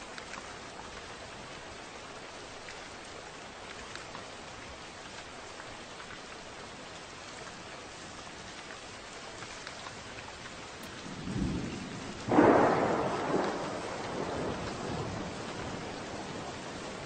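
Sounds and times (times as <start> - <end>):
raindrops ticking: 0.0 - 17.0
steady rain hiss: 0.0 - 17.0.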